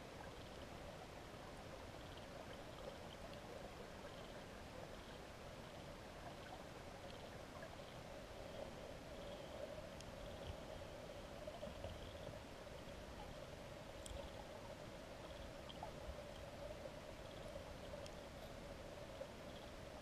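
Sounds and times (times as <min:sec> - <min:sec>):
muffled underwater river flow: 0:00.0 - 0:20.0
faint ticks: 0:00.1 - 0:20.0.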